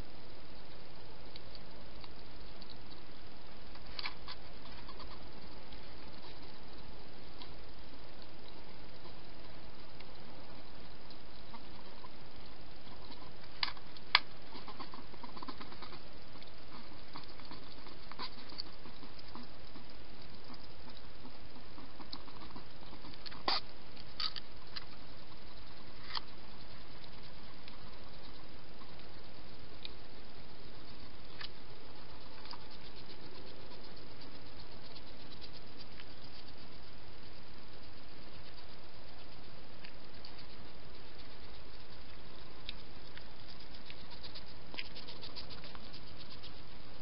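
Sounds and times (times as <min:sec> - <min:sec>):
faint ticks: 0:00.0 - 0:47.0
hedgehog chewing and crunching: 0:00.0 - 0:47.0
steady hiss: 0:00.0 - 0:47.0.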